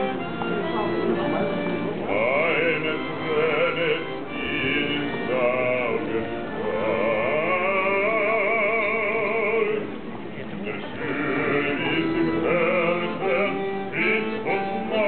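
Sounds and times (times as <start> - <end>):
button accordion: 0.0 - 9.9, 10.8 - 15.0
man singing with vibrato: 2.0 - 10.0, 10.7 - 15.0.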